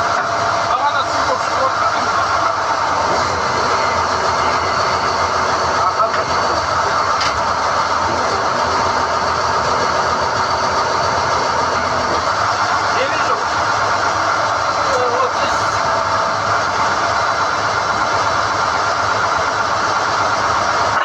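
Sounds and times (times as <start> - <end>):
drilling rig running: 0.0 - 21.0.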